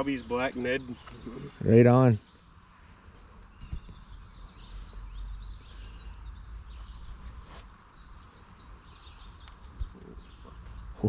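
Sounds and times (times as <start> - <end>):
songbirds chirping and singing: 0.0 - 11.0.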